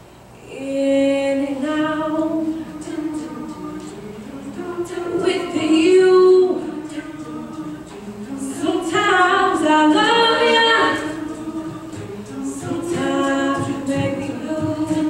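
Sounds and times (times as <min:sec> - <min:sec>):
a cappella backing harmonies: 0:00.3 - 0:15.0
female lead singing: 0:00.4 - 0:15.0.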